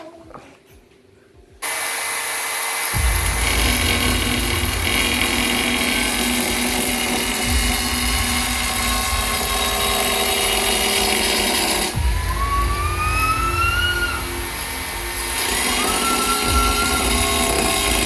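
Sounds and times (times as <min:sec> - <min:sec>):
power tool cutting ceramic tile: 0:01.6 - 0:12.0, 0:13.8 - 0:18.0.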